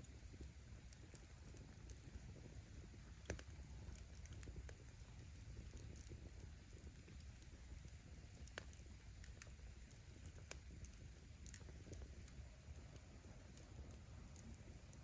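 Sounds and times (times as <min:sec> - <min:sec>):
faint wood fire rumbling: 0:00.0 - 0:15.0
firewood popping and cracking: 0:00.3 - 0:15.0.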